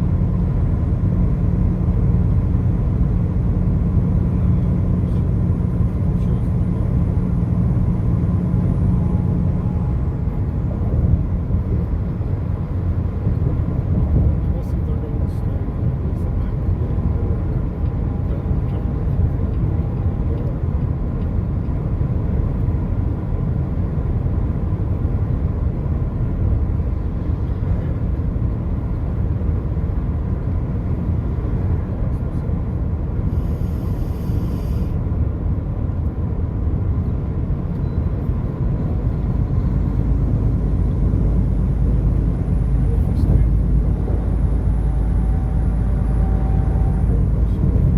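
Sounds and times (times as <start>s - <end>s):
car road and engine noise: 0.0s - 47.9s.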